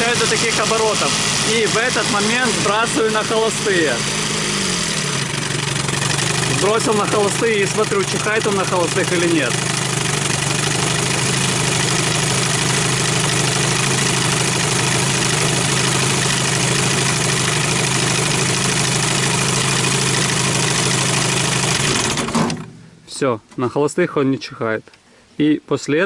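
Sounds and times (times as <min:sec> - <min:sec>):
outboard motor idling: 0:00.0 - 0:22.9.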